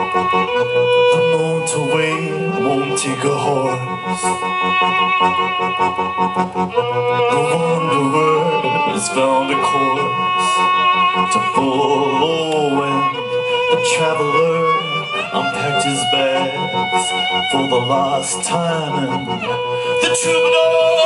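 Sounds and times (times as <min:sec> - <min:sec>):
accordion: 0:00.0 - 0:21.0
violin: 0:00.0 - 0:21.0
man singing into a microphone: 0:00.9 - 0:04.5, 0:07.2 - 0:21.0.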